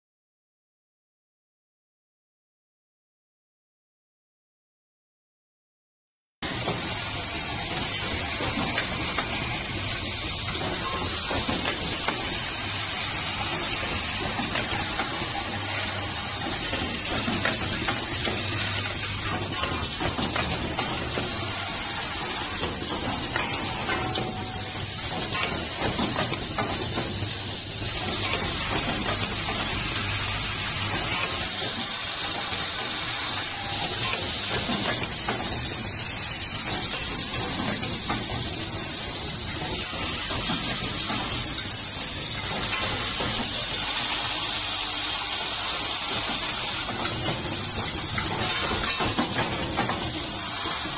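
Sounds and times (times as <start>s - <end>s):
steady hissing machine noise: 6.4s - 50.9s.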